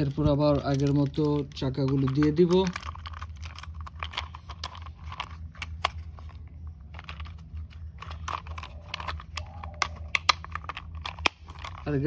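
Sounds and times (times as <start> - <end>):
steady low hum: 0.0 - 12.0
plastic toy parts clicking: 0.6 - 12.0.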